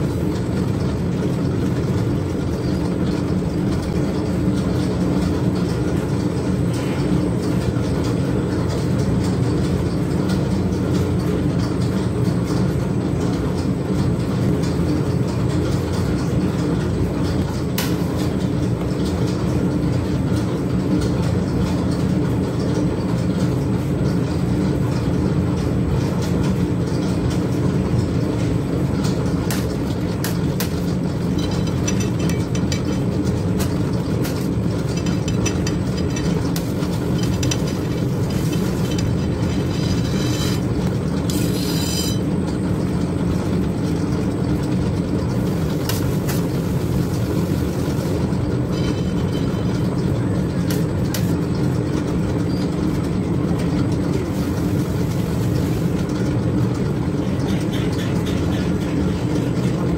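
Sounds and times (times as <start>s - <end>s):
kitchen machinery drone: 0.0s - 59.9s.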